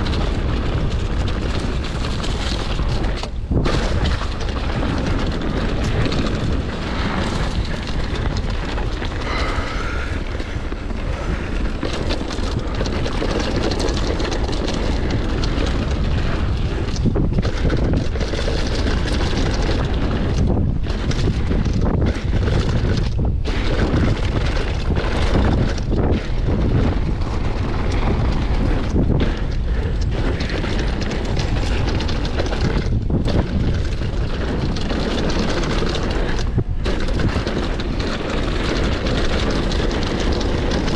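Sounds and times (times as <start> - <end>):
tyres crunching over loose ground: 0.0 - 40.9
wind rushing on microphone: 0.0 - 40.9.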